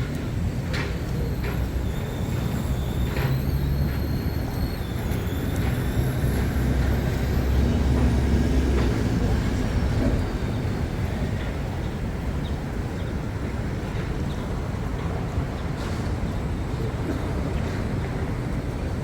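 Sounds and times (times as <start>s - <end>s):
rumble of vehicle engines: 0.0s - 19.0s.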